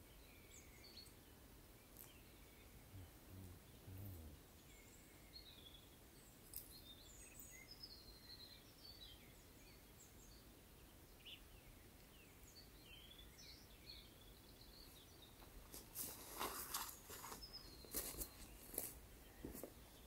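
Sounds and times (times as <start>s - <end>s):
faint songbirds chirping: 0.0s - 20.0s.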